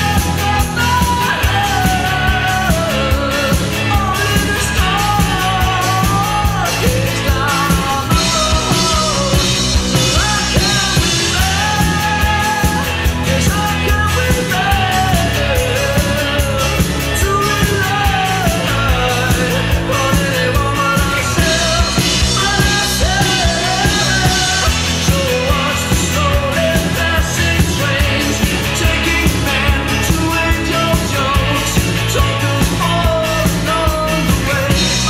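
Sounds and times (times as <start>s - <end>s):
indie rock band with singing: 0.0s - 35.0s.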